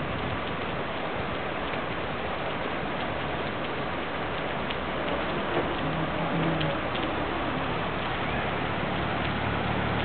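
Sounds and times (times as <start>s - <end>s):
heavy rain on a street: 0.0s - 10.0s.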